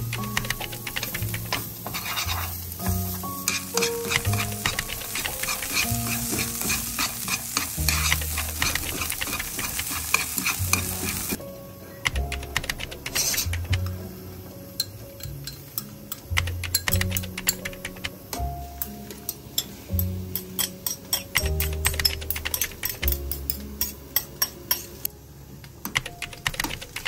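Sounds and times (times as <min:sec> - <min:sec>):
food sizzling in a pan: 0:00.0 - 0:12.0, 0:13.0 - 0:25.0
background music with low notes: 0:00.0 - 0:27.0.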